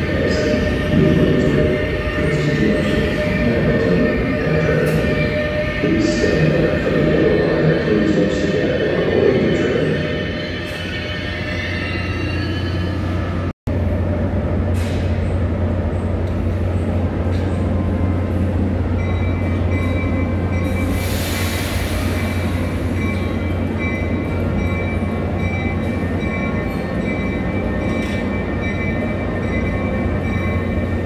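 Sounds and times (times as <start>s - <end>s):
train moving slowly humming: 0.0s - 31.0s.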